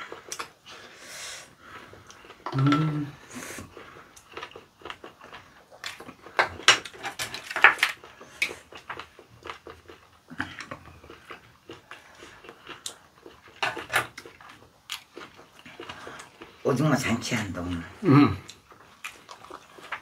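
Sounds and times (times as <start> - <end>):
chewing and lip-smacking: 1.5 - 16.6, 18.4 - 20.0.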